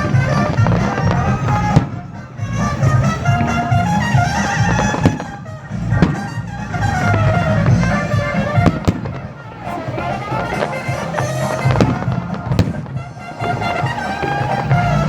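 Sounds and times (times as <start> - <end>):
fireworks sharp bangs: 0.0 - 15.0
melodic music: 0.0 - 15.0.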